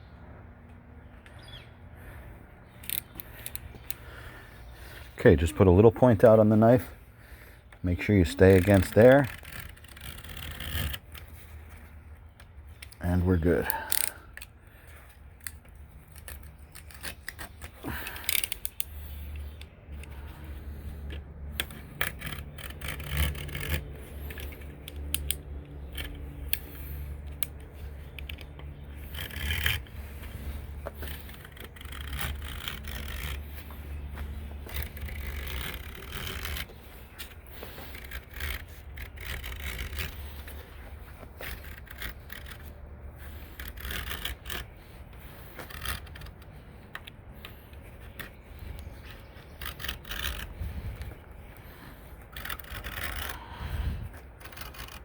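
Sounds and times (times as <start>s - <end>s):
utility knife scraping: 2.0s - 55.0s
handling clicks and rubbing: 2.6s - 55.0s.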